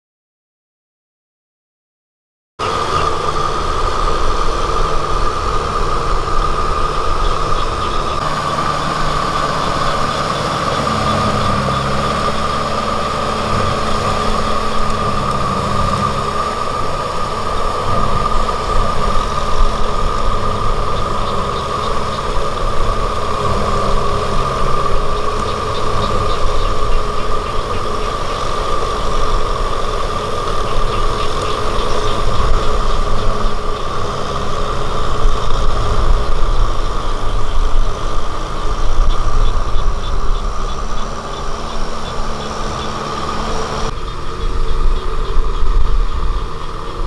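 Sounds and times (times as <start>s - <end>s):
steady high whine: 2.6s - 47.0s
tractor diesel engine under load: 2.6s - 47.0s.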